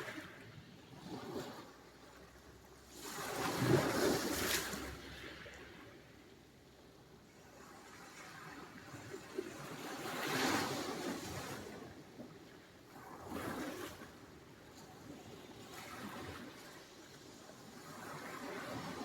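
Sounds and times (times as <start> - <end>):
waves breaking: 0.0 - 6.0, 7.5 - 12.0, 12.9 - 19.0.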